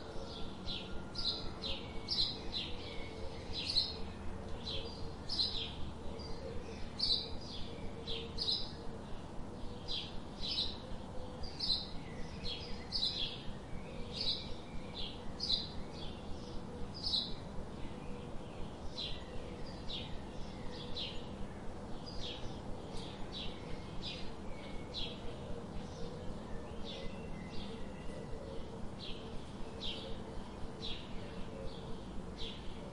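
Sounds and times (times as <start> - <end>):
birds chirping: 0.0 - 32.9
low background hiss: 0.0 - 32.9.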